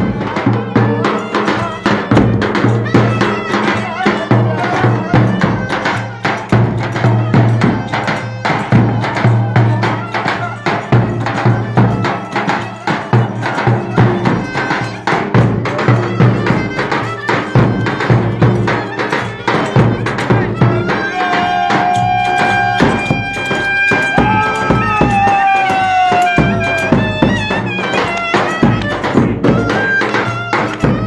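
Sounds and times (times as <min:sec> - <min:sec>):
folk music melody: 0:00.0 - 0:31.0
steady percussion beat: 0:00.0 - 0:31.0.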